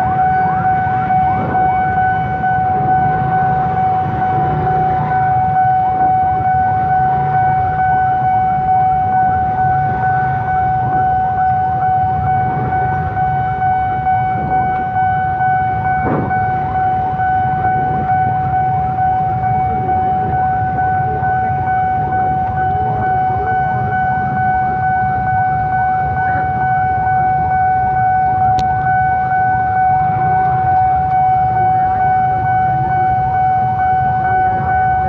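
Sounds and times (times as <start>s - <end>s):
level crossing warning tone: 0.0s - 35.0s.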